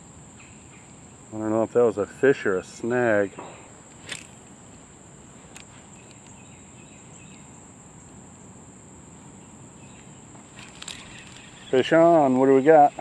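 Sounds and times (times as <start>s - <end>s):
insects singing: 0.0s - 13.0s.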